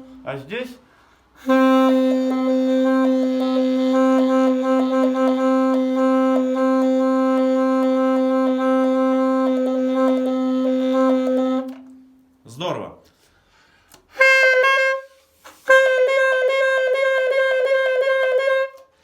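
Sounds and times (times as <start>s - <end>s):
saxophone long note: 0.0s - 0.5s, 1.4s - 12.2s, 14.1s - 18.9s.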